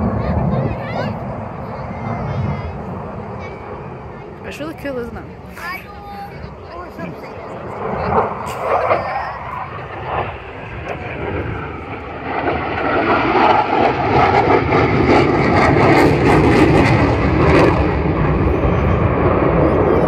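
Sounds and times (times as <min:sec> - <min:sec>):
jet engine rushing with crackle: 0:00.0 - 0:20.0.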